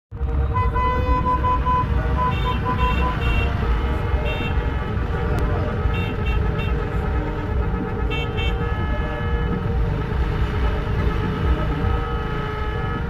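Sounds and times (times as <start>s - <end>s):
low rumble of engines: 0.1s - 13.0s
car horns tooting: 0.4s - 13.0s.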